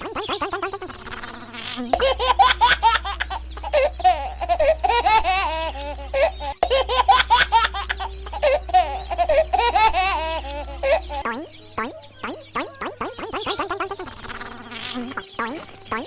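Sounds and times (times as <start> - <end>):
cartoon laughter sound effect: 0.0 - 16.0
steady low hum: 0.0 - 16.0.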